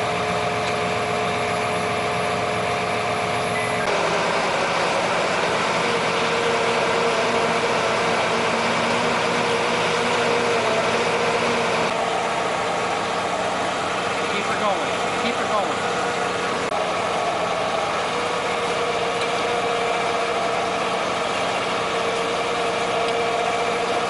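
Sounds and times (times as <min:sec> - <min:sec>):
forklift engine running: 0:00.0 - 0:24.0
steady whine: 0:00.0 - 0:24.0
tractor engine running: 0:00.0 - 0:24.0.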